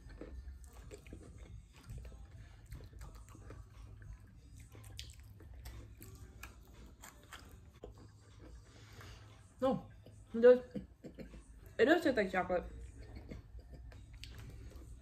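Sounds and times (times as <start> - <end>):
chewing and crunching gingerbread: 0.0 - 15.0.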